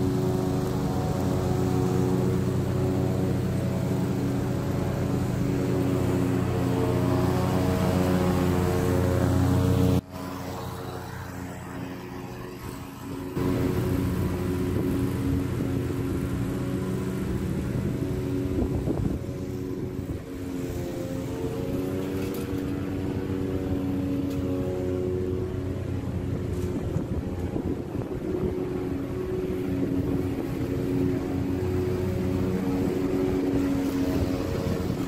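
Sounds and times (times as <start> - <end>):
lawn mower engine running: 0.0 - 35.0.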